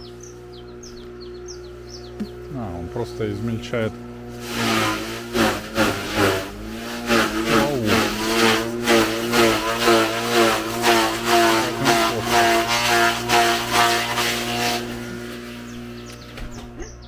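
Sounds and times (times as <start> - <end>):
garden shredder chopping grass: 0.0 - 17.0.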